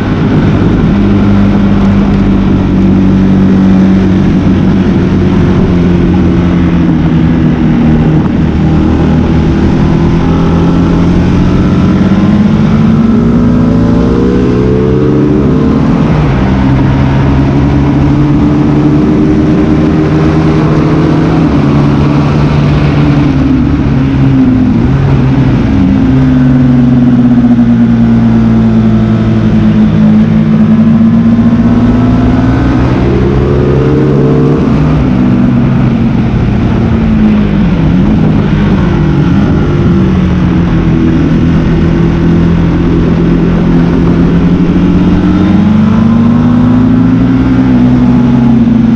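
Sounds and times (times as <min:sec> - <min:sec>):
motorcycle engine revving hard: 0:00.0 - 0:48.9.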